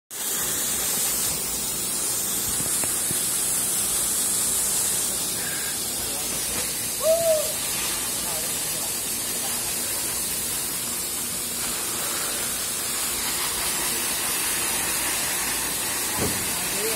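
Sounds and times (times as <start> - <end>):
grain pouring through chute: 0.1 - 16.9.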